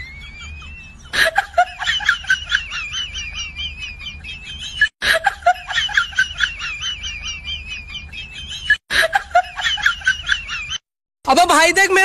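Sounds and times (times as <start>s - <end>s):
sped-up high-pitched giggling: 0.0s - 10.8s.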